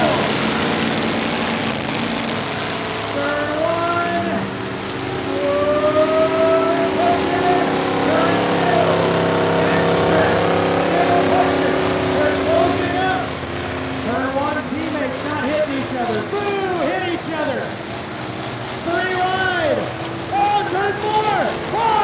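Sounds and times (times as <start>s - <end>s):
truck engines revving: 0.0s - 22.0s.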